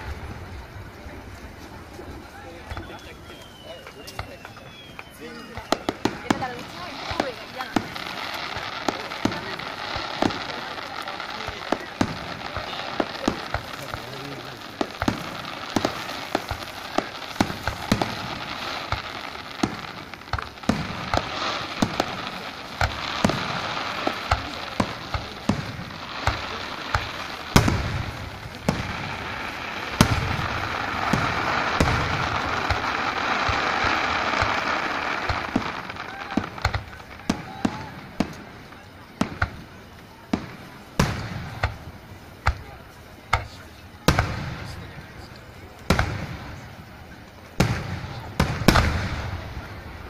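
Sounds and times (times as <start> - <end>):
fireworks bangs and crackles: 0.0 - 50.0
heavy fireworks booms: 0.0 - 50.0.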